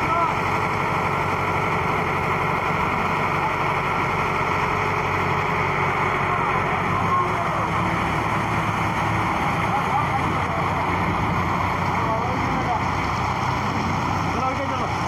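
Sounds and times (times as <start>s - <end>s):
mixer truck diesel engine running: 0.0s - 15.0s.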